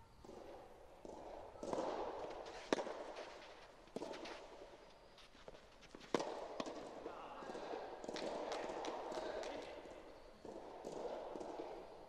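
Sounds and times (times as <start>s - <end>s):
rackets hitting tennis ball: 0.2s - 4.8s, 5.4s - 12.0s.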